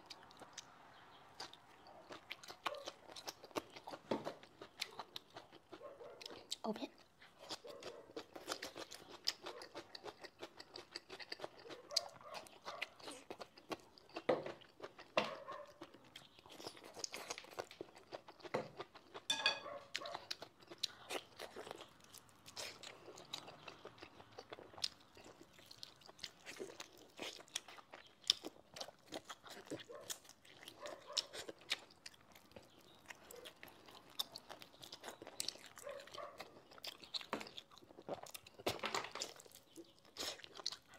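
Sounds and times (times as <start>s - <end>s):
crunchy chewing and biting: 0.0s - 40.9s.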